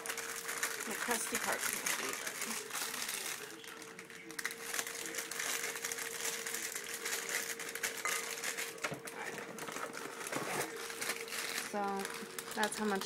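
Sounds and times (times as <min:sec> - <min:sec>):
crackers landing in a bowl: 0:00.0 - 0:13.0
plastic sleeve crinkling: 0:00.0 - 0:13.0.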